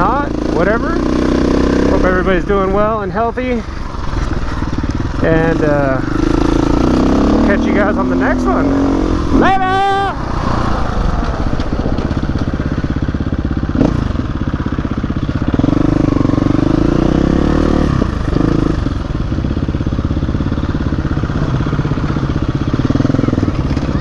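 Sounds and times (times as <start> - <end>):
dirt bike engine under throttle: 0.0 - 24.0.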